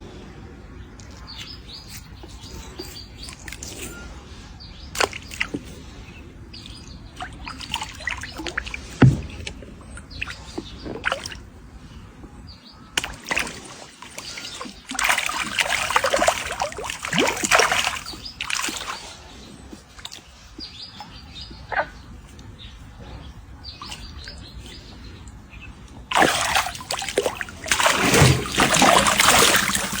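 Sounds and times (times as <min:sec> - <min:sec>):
water splashing and sloshing: 0:00.1 - 0:30.0.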